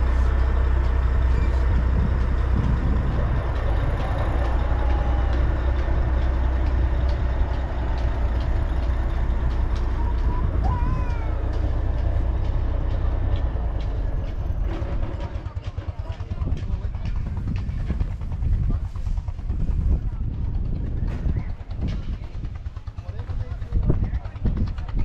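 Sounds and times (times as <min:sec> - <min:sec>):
diesel truck engine idling: 0:00.0 - 0:24.4.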